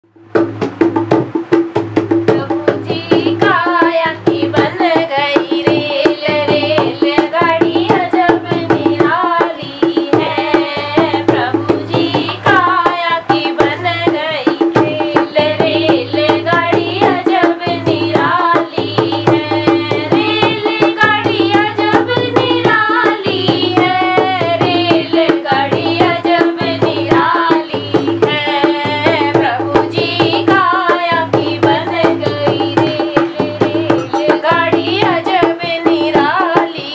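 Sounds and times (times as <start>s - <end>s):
hand drum strokes: 0.1s - 36.9s
girl singing: 2.3s - 36.9s.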